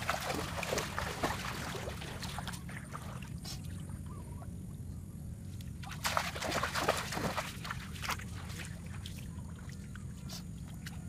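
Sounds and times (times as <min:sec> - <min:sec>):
bare feet splashing in muddy water: 0:00.0 - 0:04.2, 0:05.6 - 0:11.0.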